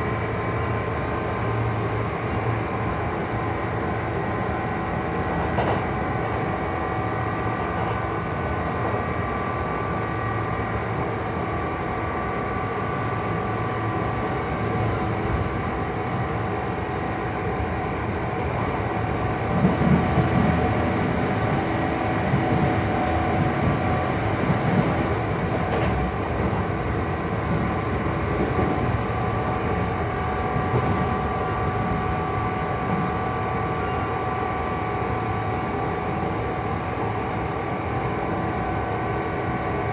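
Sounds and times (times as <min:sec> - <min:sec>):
train motor and gear whine: 0:00.0 - 0:39.9
wheels rumbling on rail: 0:00.0 - 0:39.9.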